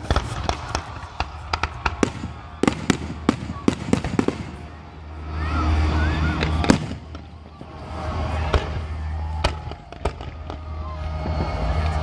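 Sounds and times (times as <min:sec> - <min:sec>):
fireworks booming: 0:00.0 - 0:04.8, 0:06.3 - 0:12.0
fireworks cracking: 0:00.0 - 0:05.1, 0:05.7 - 0:12.0.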